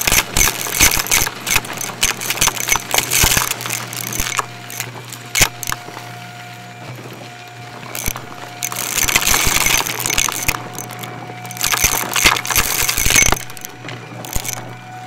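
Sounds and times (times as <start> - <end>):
debris crackling and rattling: 0.0 - 6.2, 7.8 - 15.0
vacuum cleaner motor hum: 0.0 - 15.0.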